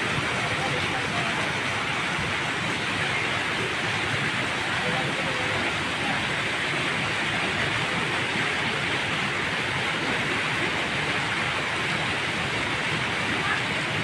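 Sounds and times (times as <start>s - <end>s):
heavy rain on water and ground: 0.0s - 14.0s.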